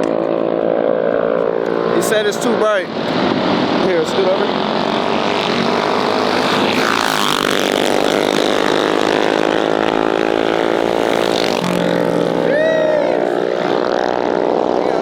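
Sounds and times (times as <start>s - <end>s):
mini bike engines revving: 0.0s - 15.0s.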